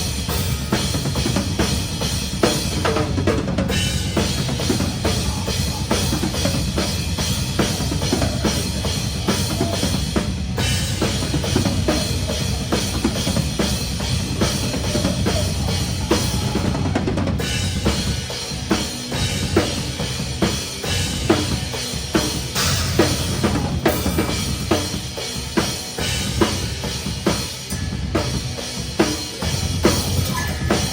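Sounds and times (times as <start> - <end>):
metalcore band playing live: 0.0 - 30.9.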